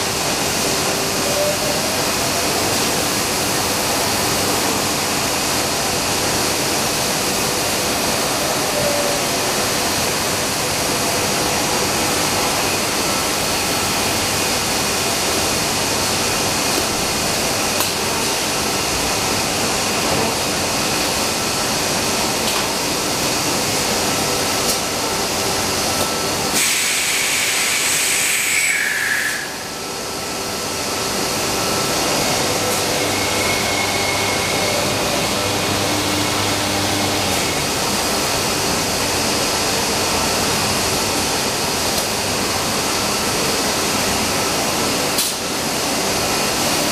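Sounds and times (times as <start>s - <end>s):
woodworking machine rushing noise: 0.0s - 46.9s.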